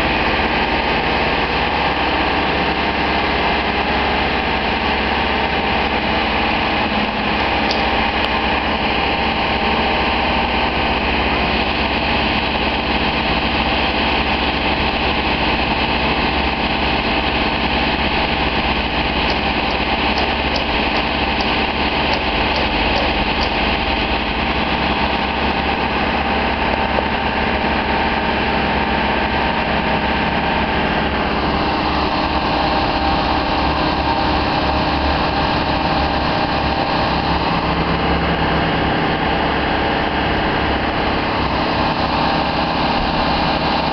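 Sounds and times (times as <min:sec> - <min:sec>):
boom lift engine running: 0:00.0 - 0:43.9.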